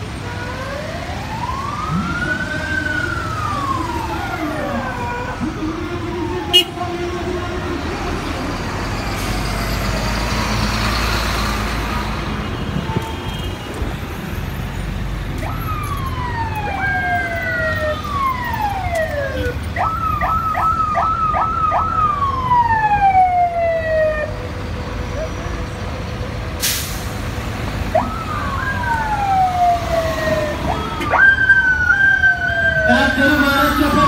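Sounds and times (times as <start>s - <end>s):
passing traffic: 0.0s - 34.0s.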